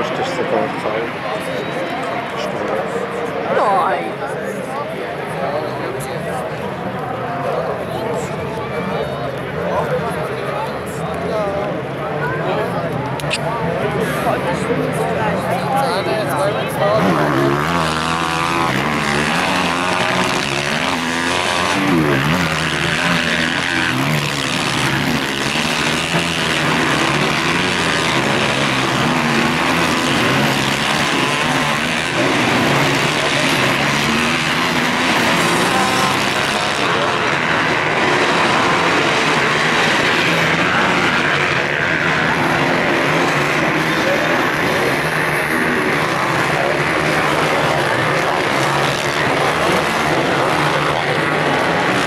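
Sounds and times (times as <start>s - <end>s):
motocross bike engines revving: 0.0s - 52.0s.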